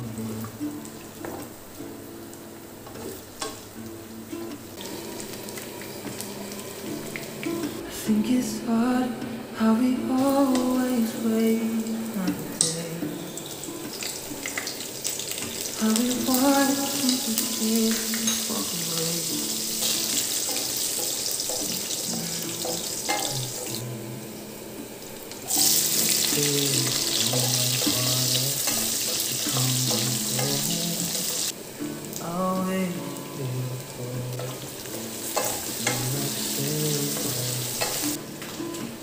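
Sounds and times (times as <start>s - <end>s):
background music: 0.0s - 39.0s
chillies sizzling in hot oil: 0.6s - 7.7s, 10.5s - 23.8s, 24.9s - 32.3s, 33.0s - 39.0s.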